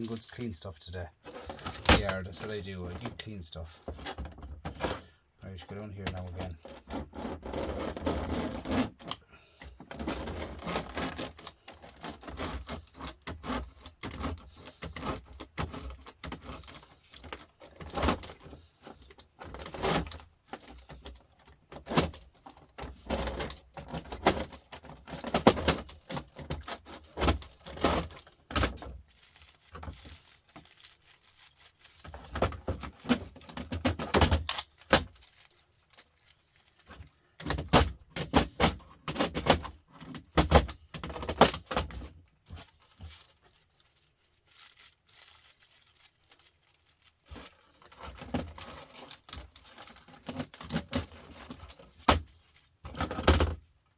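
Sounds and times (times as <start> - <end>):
metal fins tearing and crinkling: 1.2 - 53.9.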